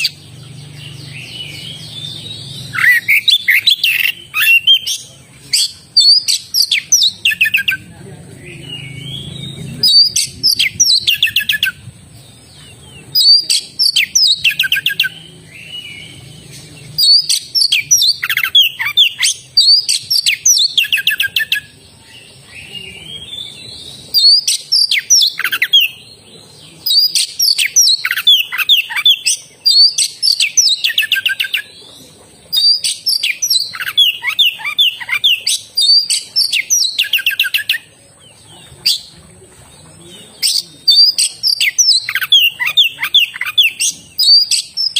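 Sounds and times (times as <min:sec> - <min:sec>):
bird singing: 0:00.0 - 0:44.9.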